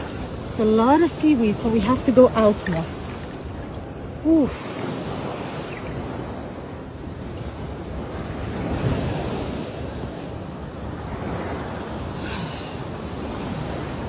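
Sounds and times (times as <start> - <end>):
ocean surf washing: 0.0 - 14.0
wind rumbling on microphone: 0.0 - 14.0.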